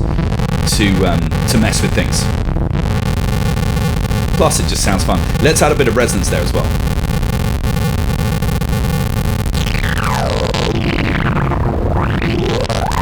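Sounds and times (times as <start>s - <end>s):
gritty clicking synth buzz: 0.0s - 13.0s.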